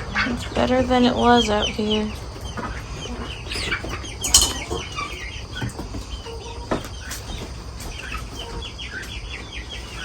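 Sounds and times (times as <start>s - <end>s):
chickens clucking and chirping: 0.0s - 10.0s.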